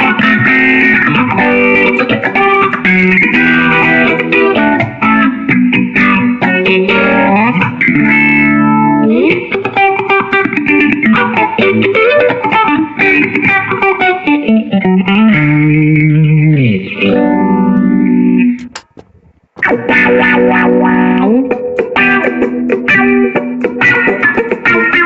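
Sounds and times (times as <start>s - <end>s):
electric guitar riffs: 0.0s - 25.0s.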